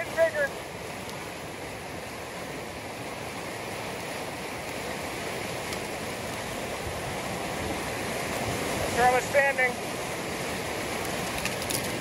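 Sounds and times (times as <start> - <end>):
rushing debris flow in creek: 0.0 - 12.0.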